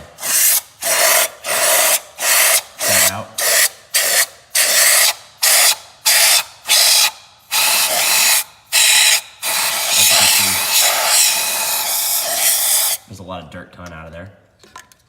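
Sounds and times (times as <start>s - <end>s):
compressed air hissing blasts: 0.0s - 13.1s.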